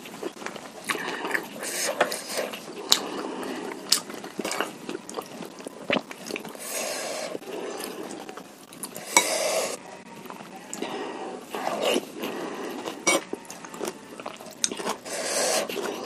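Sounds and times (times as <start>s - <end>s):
wet chewing and biting: 0.0s - 6.7s, 7.3s - 16.0s.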